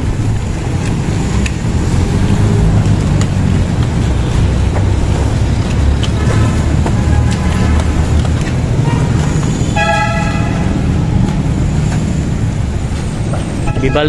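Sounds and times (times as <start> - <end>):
traffic and heavy equipment rumble: 0.0 - 14.0.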